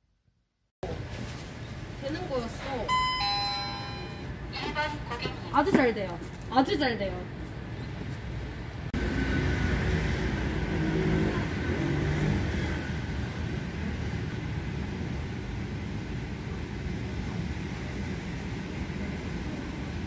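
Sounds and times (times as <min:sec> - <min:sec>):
road traffic hum: 0:00.8 - 0:20.0.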